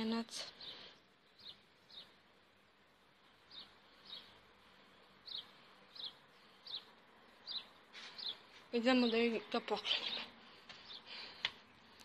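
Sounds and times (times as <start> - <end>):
small bird chirping faintly: 0.0 - 12.0.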